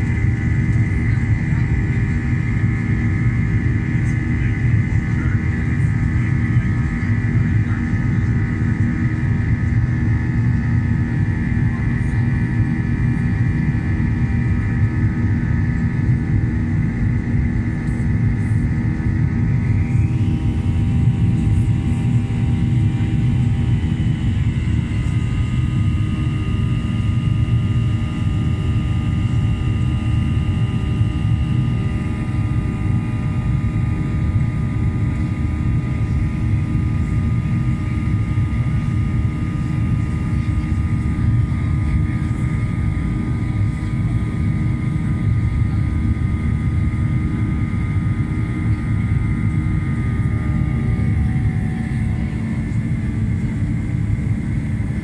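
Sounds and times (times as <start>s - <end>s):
high engine whine: 0.0s - 55.0s
jet engine rumble in cabin: 0.0s - 55.0s.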